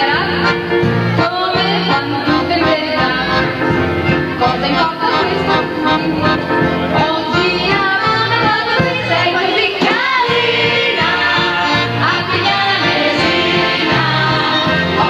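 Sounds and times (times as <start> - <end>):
woman singing: 0.0 - 0.6, 1.2 - 3.6, 4.4 - 6.4, 7.0 - 15.0
drums: 0.0 - 15.0
electric guitar: 0.0 - 15.0.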